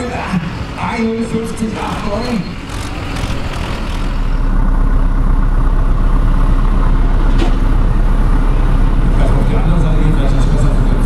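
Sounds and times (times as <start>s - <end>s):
diesel tractor engine rumbling: 0.0s - 11.0s.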